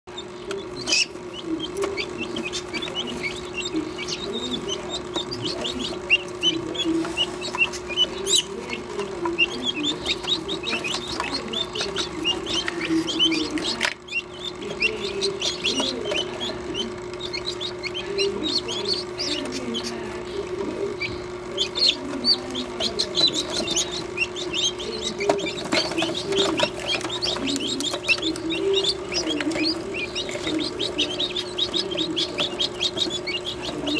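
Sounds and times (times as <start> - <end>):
guinea keets peeping: 0.1 - 33.9
steady hum: 0.1 - 33.9.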